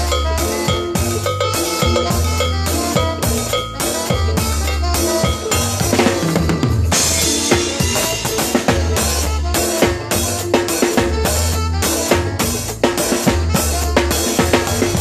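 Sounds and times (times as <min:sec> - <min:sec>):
band playing live: 0:00.0 - 0:15.0
bass drum and snare hits: 0:00.0 - 0:15.0.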